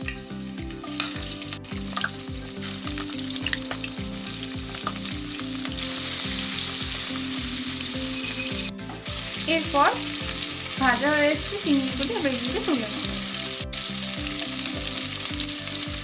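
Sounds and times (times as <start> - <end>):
prawns sizzling in hot oil: 0.0 - 16.0.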